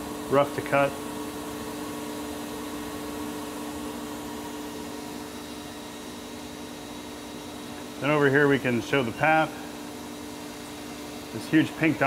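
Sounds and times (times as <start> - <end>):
lathe machine hum with tones: 0.0 - 12.0
coolant hiss: 0.1 - 12.0.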